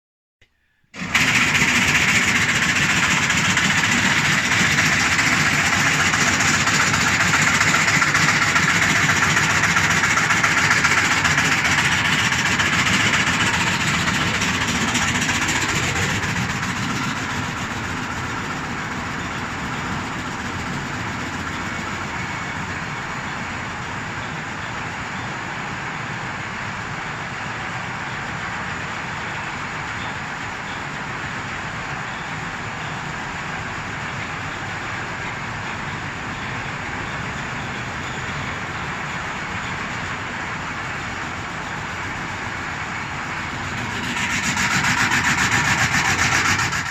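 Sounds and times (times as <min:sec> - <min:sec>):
feed line mechanical rattle and whir: 0:01.0 - 0:46.9.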